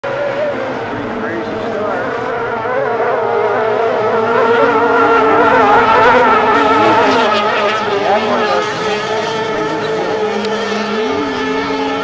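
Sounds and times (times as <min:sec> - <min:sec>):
racing outboard engines buzzing: 0:00.0 - 0:12.0.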